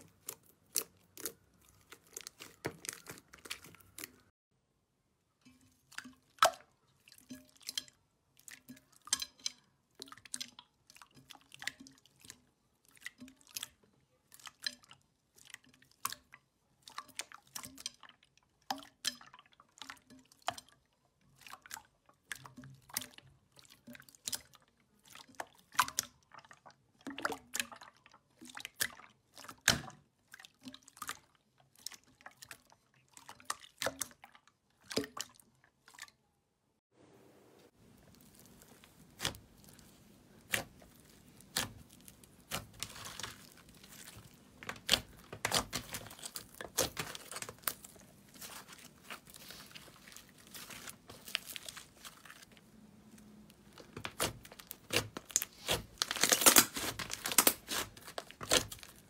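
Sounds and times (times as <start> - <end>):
slime squelching and popping: 0.0 - 4.3, 5.8 - 36.1, 37.7 - 59.0.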